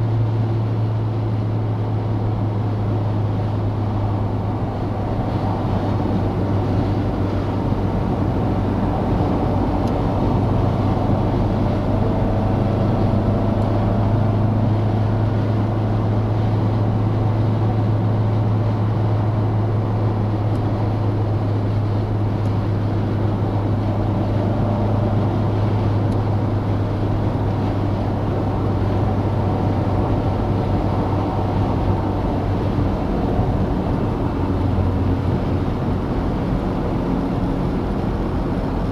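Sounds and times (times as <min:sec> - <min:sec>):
car engine droning while driving: 0:00.0 - 0:38.9
road and wind noise: 0:00.0 - 0:38.9.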